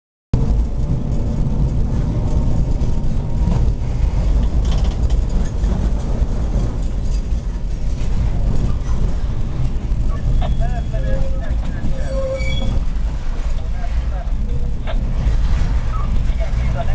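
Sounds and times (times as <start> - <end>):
tram wheels rumbling on track: 0.4 - 16.9.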